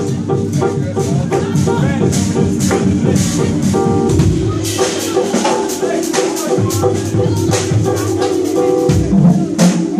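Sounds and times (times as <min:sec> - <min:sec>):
drum kit: 0:00.0 - 0:09.9
electric bass: 0:00.0 - 0:09.9
held melodic notes: 0:00.0 - 0:09.9.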